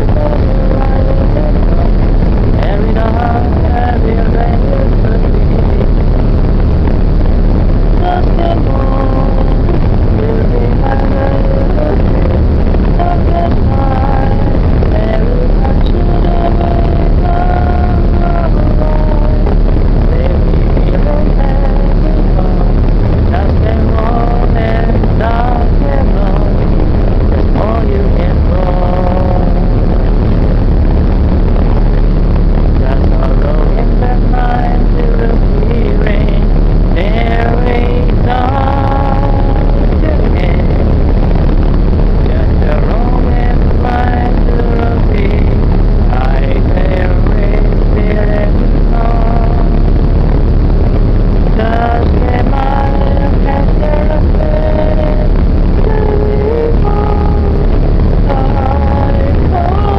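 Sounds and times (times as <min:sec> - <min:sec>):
people singing: 0:00.0 - 0:05.9, 0:08.0 - 0:26.7, 0:27.3 - 0:29.9, 0:32.8 - 0:41.2, 0:42.2 - 0:50.0, 0:51.5 - 0:59.9
boat engine rumbling: 0:00.0 - 0:59.9.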